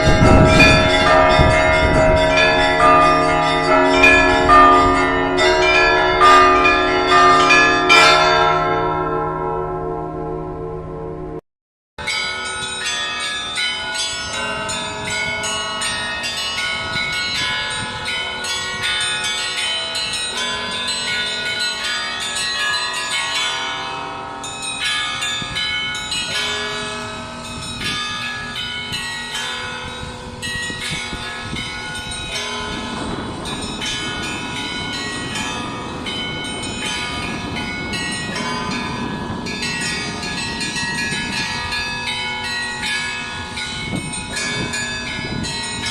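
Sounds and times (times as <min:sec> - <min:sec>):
church bells pealing: 0:00.0 - 0:11.4, 0:12.0 - 0:45.9.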